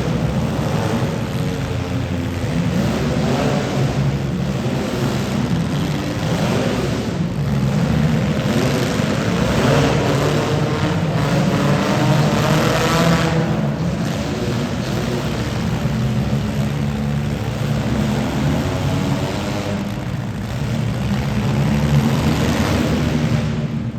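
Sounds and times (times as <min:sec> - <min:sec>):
car engines revving: 0:00.0 - 0:23.9.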